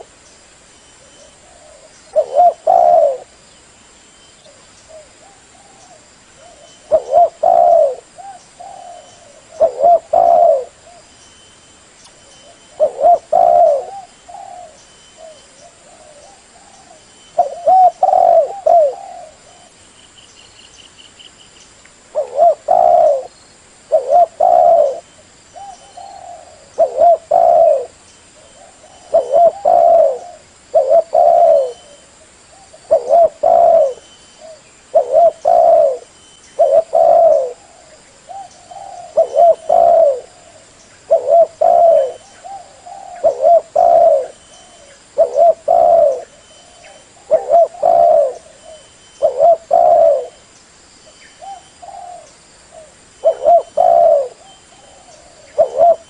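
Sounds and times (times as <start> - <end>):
dove cooing: 1.0 - 3.4, 4.5 - 11.1, 12.2 - 19.8, 22.1 - 50.5, 51.4 - 56.0.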